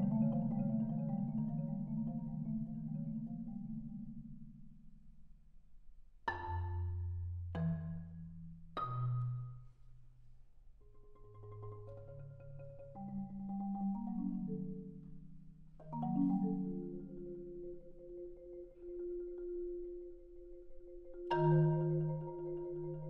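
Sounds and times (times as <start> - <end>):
solo marimba: 0.0 - 5.1, 6.3 - 10.0, 10.8 - 23.0.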